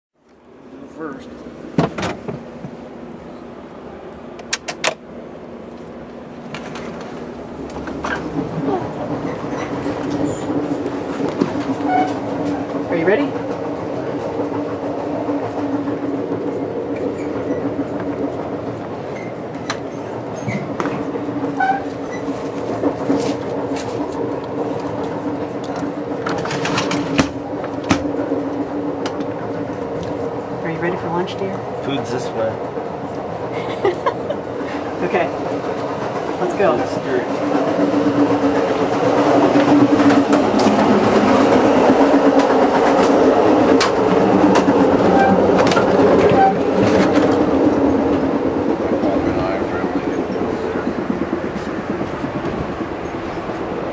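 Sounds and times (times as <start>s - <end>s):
train car hum and rumble: 0.2s - 53.9s.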